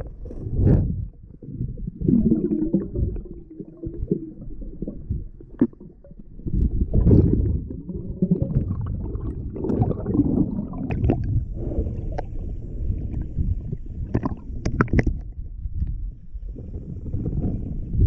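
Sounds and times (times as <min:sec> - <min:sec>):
muffled underwater rumble: 0:00.0 - 0:18.0.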